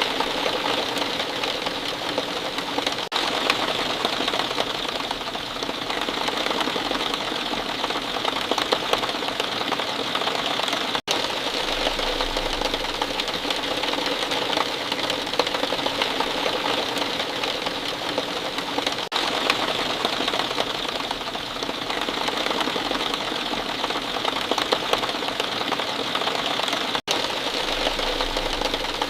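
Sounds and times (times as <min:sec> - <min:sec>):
rain falling: 0:00.0 - 0:29.0.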